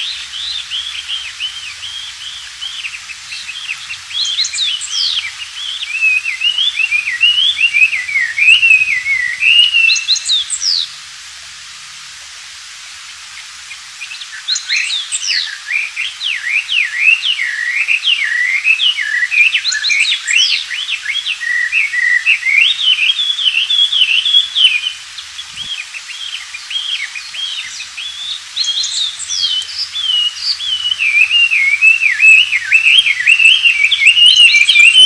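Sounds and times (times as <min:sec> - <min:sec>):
bird singing whistled phrases: 0:00.0 - 0:10.9, 0:14.0 - 0:35.0.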